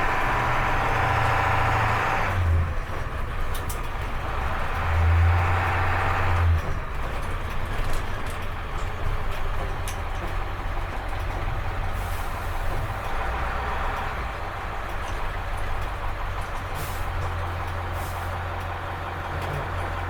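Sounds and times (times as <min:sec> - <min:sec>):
bus engine rumbling: 0:00.0 - 0:20.0.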